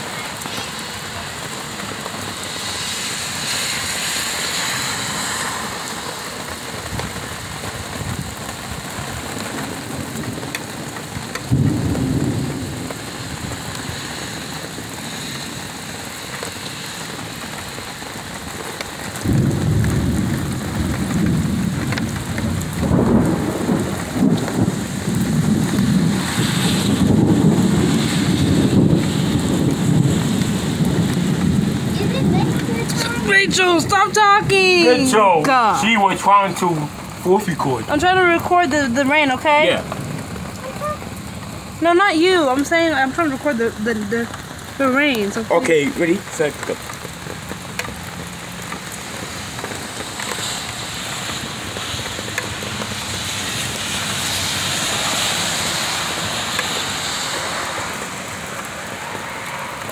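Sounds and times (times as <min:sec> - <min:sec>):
heavy rain on pavement: 0:00.0 - 0:59.9
thunder rumbling: 0:00.0 - 0:59.9.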